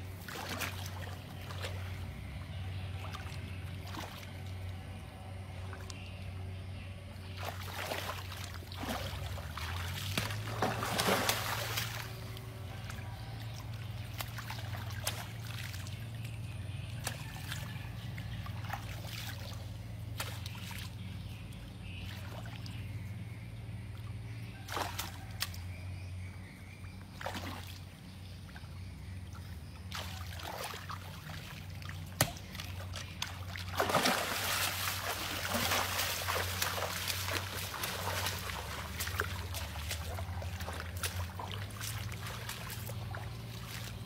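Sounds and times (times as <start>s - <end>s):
low hum: 0.0s - 44.0s
water splashing and sloshing: 0.0s - 44.0s.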